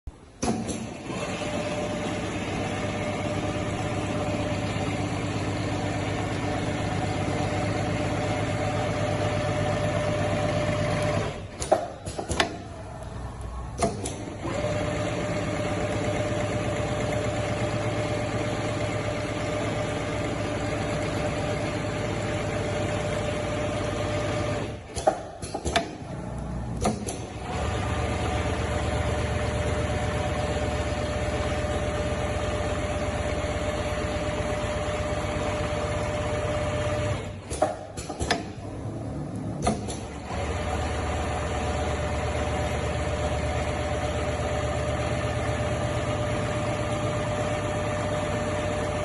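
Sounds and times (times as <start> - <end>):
sewing machine humming: 0.5 - 49.0.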